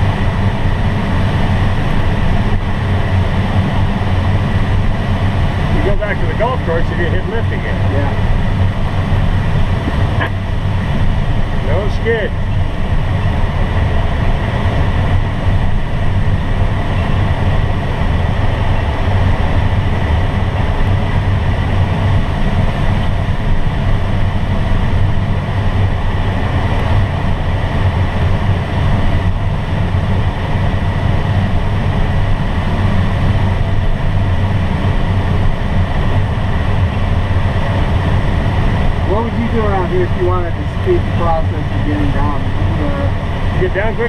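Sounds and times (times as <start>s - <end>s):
airflow rushing in glider cockpit: 0.0s - 44.0s.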